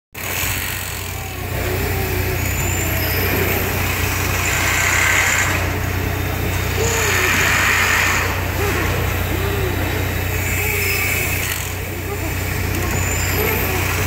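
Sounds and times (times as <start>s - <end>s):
deep gas engine running: 0.2s - 14.0s.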